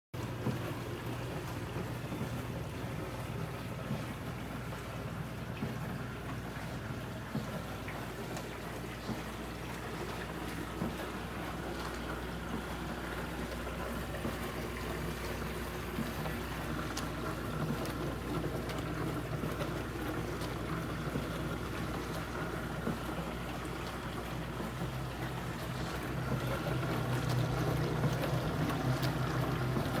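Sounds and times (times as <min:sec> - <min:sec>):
dishwasher motor hum: 0:00.2 - 0:30.0
water noise: 0:00.2 - 0:30.0.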